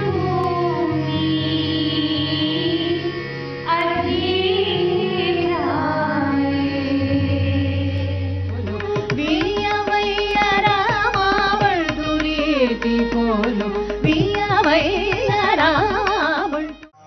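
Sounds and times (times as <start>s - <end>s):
women singing: 0.0s - 16.9s.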